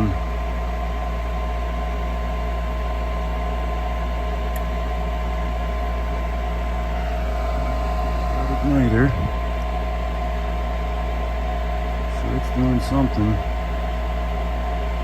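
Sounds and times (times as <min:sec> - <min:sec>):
furnace motor humming: 0:00.0 - 0:15.0.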